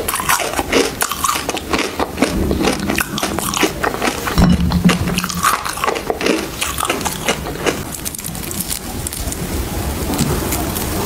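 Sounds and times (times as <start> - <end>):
ice blocks clicking and crackling: 0.0 - 9.4.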